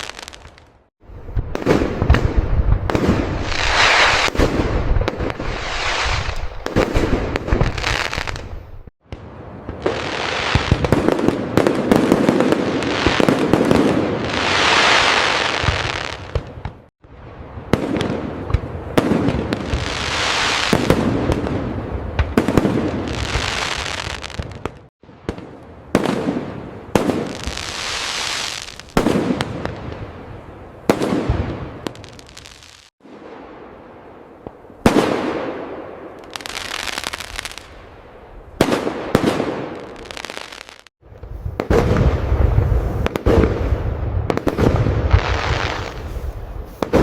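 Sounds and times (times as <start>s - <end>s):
fireworks bangs: 0.0s - 38.0s, 38.6s - 47.0s
fireworks crackling and hissing: 0.0s - 47.0s.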